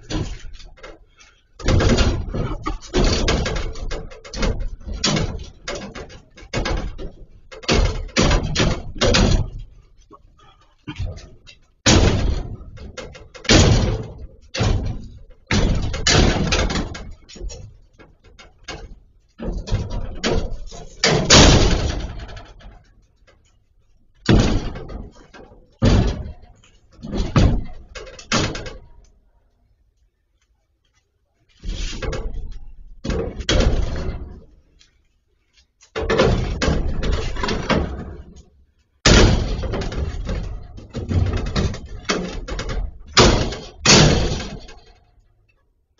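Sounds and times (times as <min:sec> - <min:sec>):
bar banging against brick wall: 0:00.0 - 0:29.1, 0:31.5 - 0:45.6.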